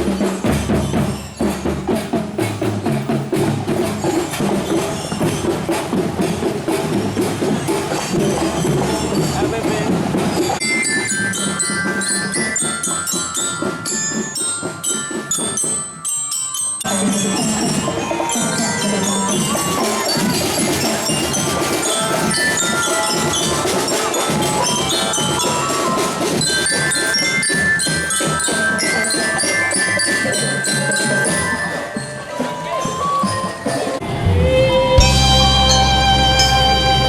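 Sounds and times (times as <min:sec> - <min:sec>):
mallet bells melody: 0:00.0 - 0:34.0, 0:34.9 - 0:37.0
drums beating: 0:00.0 - 0:37.0.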